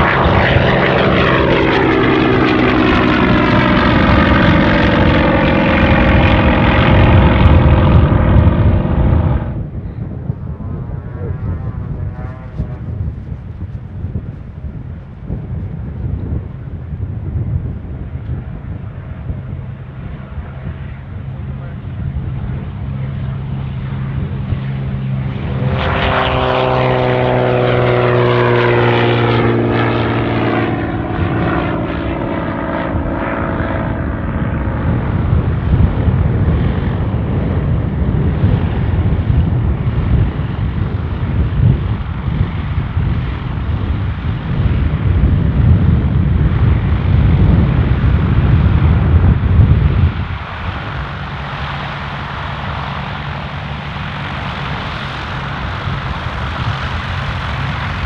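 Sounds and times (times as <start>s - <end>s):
propeller engine running unevenly: 0.0s - 58.0s
propeller plane passing: 0.0s - 58.0s.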